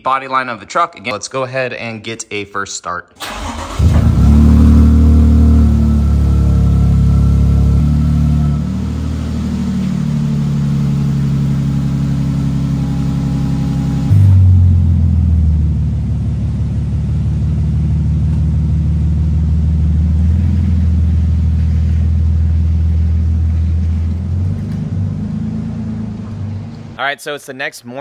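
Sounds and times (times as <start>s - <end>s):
truck engine idling: 3.2s - 27.1s.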